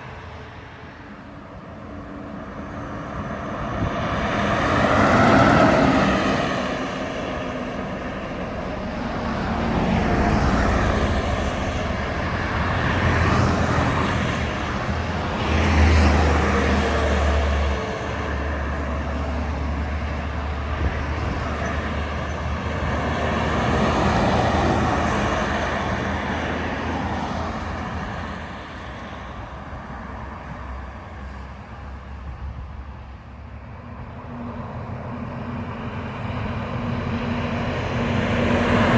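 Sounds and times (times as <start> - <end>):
heavy trucks passing: 0.0 - 38.9.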